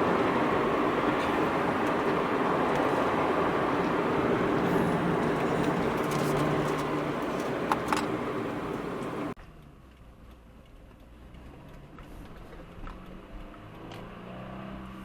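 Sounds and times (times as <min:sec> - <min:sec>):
car engine and road noise drone: 0:00.0 - 0:15.0.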